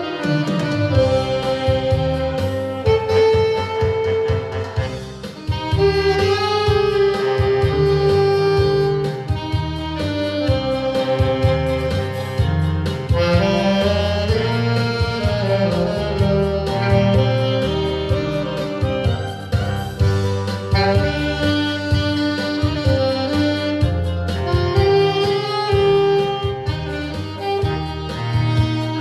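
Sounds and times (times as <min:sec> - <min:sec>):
bass: 0:00.0 - 0:29.0
drums: 0:00.0 - 0:29.0
saxophone melody: 0:00.0 - 0:29.0.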